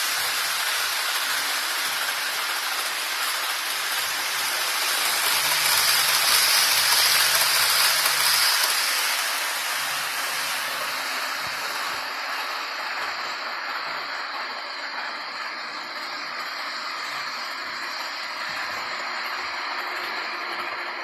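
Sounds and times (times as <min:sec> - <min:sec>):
model train rumbling along track: 0:00.0 - 0:21.0.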